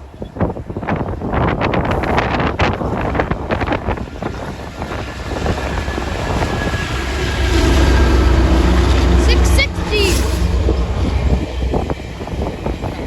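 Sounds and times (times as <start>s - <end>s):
diesel locomotive drone: 0.0s - 13.0s.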